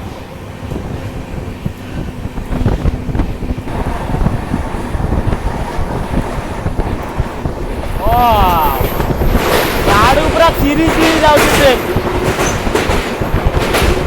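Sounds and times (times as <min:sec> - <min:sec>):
train rumble: 0:00.0 - 0:14.0
wind buffeting microphone: 0:00.0 - 0:14.0
wheels clattering on track: 0:00.6 - 0:14.0.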